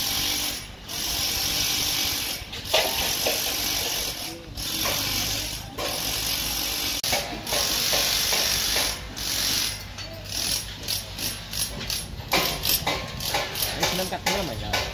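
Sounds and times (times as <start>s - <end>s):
metallic ratcheting: 0.0s - 14.9s
workers' voices: 0.0s - 14.9s.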